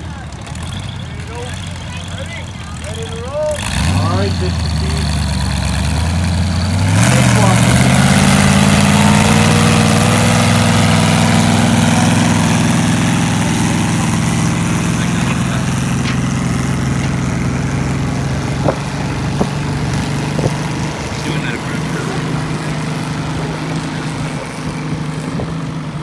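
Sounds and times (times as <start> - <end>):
garden tractor engine idling: 0.0 - 26.0.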